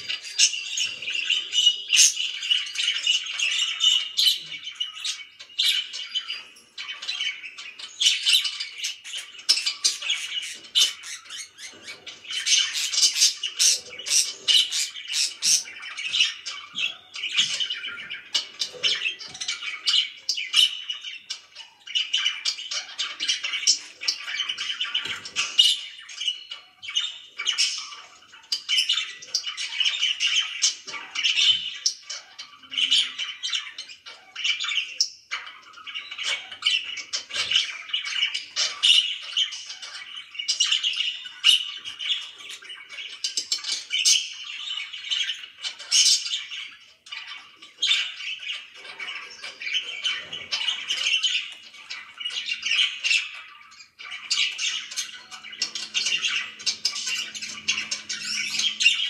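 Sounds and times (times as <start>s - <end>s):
budgerigars chirping and calling: 0.0s - 59.0s.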